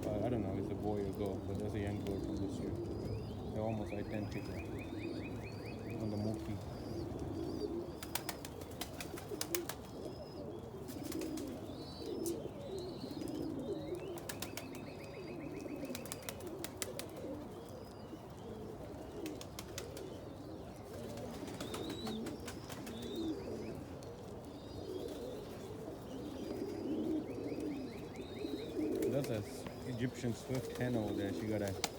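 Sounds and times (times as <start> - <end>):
pigeons cooing: 0.0 - 31.9.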